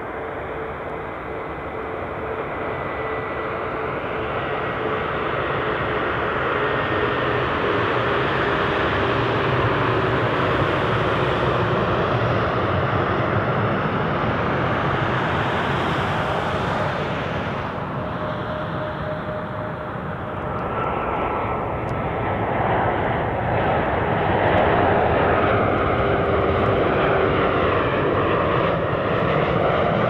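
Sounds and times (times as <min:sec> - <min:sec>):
jet airliner flying past: 0:00.0 - 0:30.0.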